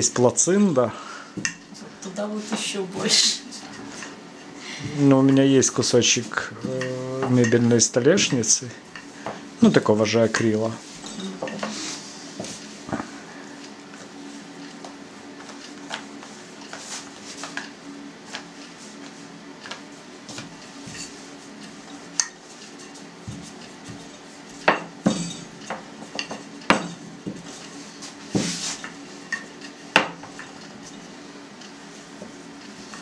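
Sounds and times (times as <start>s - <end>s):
rolling pin rolling dough: 5.0s - 33.0s.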